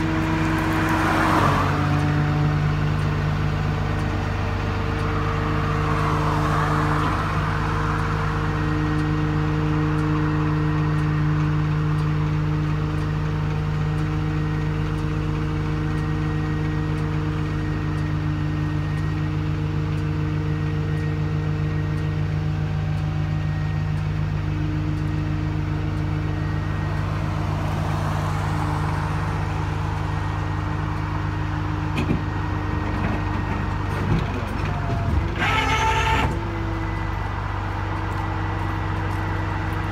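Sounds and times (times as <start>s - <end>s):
traffic going by: 0.0s - 39.9s
truck engine idling: 0.0s - 39.9s.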